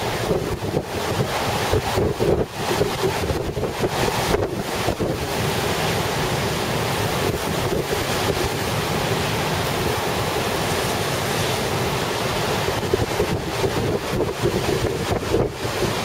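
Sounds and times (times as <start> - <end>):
surf crashing: 0.0 - 16.0
wind buffeting microphone: 0.0 - 16.0.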